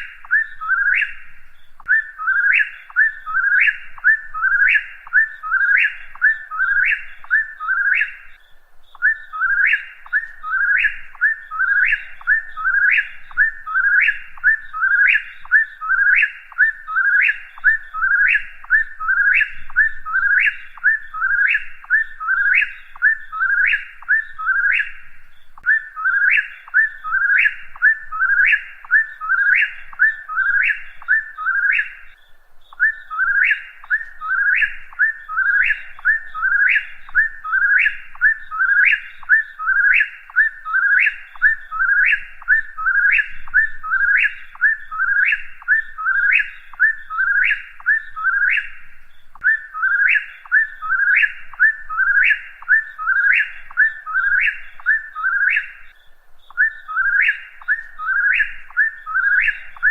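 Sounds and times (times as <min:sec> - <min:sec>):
bird whistling song: 0:00.0 - 0:59.9.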